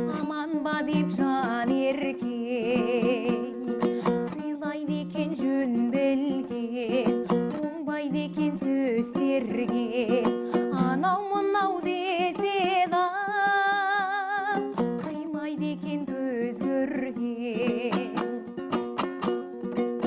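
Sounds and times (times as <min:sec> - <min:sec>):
person singing: 0:00.0 - 0:19.5
plucked string instrument strumming: 0:00.0 - 0:20.0.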